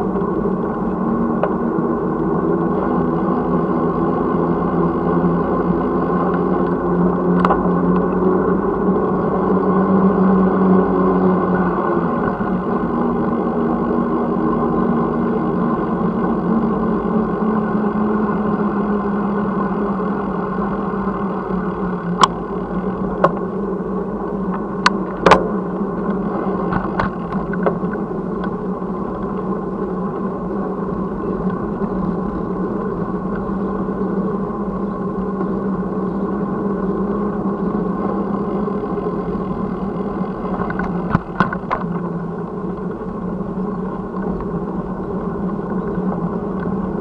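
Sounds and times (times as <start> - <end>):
rushing noise of bicycle riding: 0.0 - 47.0.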